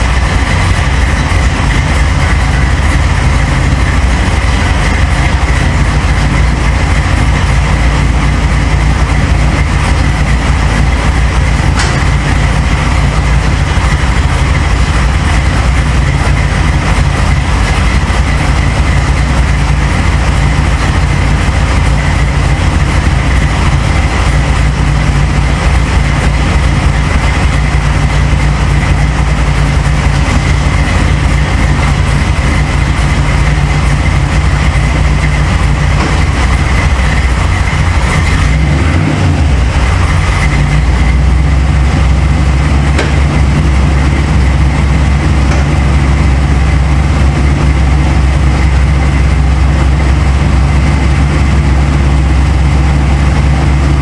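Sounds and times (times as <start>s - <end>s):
mechanical drone with high whine: 0.0s - 54.0s.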